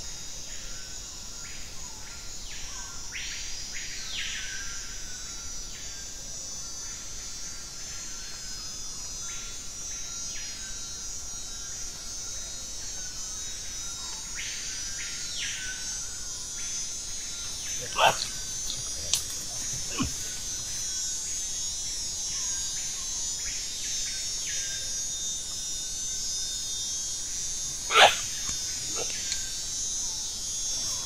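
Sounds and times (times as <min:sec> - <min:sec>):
insect chorus high buzz: 0:00.0 - 0:31.0
short pulsing insect calls: 0:01.6 - 0:31.0.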